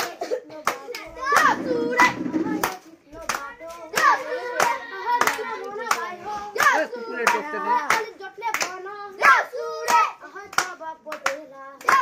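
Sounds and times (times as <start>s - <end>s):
boys clapping hands: 0.0s - 12.0s
boys singing or chanting: 0.0s - 12.0s.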